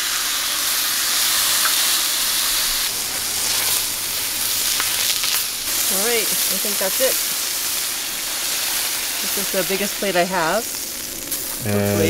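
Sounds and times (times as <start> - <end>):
steak sizzling on griddle: 0.0 - 12.0.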